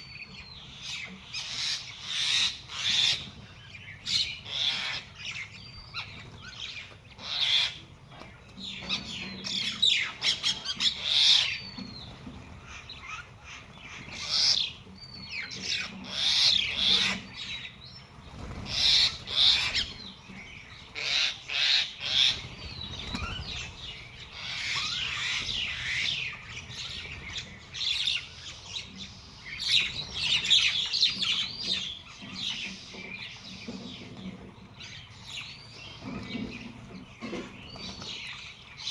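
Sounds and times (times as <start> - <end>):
small birds chirping and squawking: 0.0 - 38.9.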